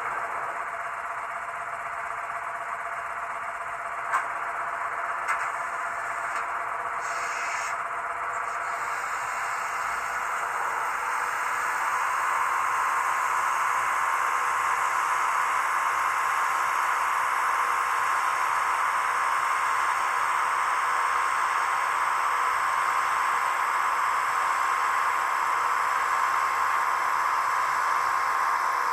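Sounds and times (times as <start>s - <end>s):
steady whine: 0.0s - 28.9s.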